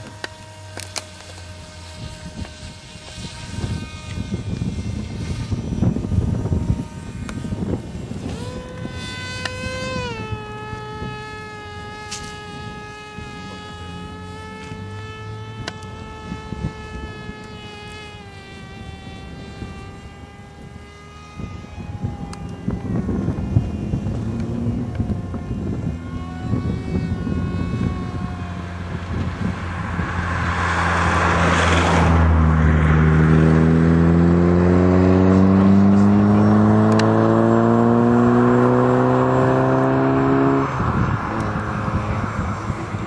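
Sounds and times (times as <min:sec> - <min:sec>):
low wind rumble on microphone: 0:00.0 - 0:43.0
model plane motor whine: 0:00.0 - 0:43.0.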